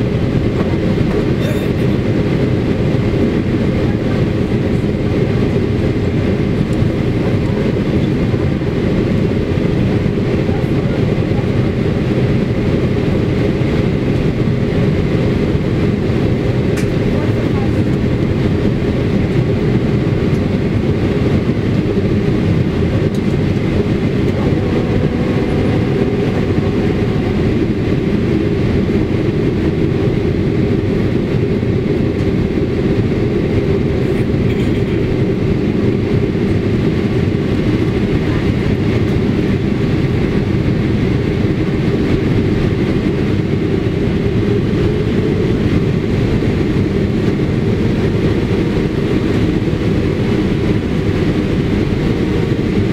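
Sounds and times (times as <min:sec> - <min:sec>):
jet engine drone: 0:00.0 - 0:52.9
rushing airflow: 0:00.0 - 0:52.9.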